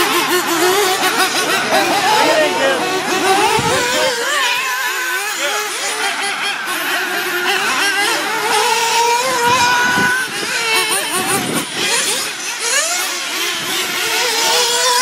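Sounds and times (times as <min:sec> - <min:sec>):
small engines whining: 0:00.0 - 0:15.0.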